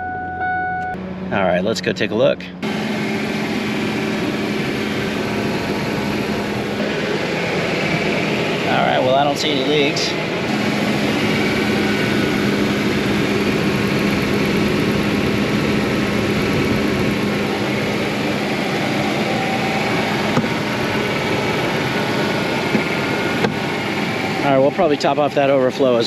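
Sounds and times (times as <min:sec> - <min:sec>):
car engine idling: 0:01.3 - 0:26.0.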